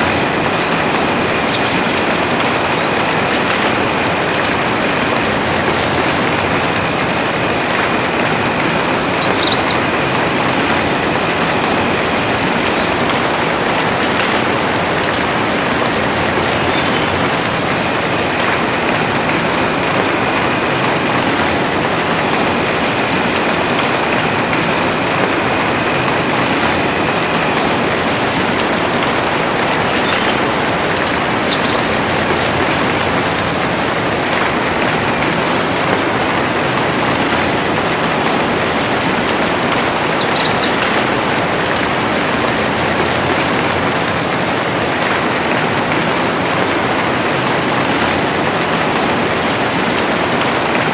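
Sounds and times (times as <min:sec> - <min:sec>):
high-pitched whine: 0:00.0 - 0:50.9.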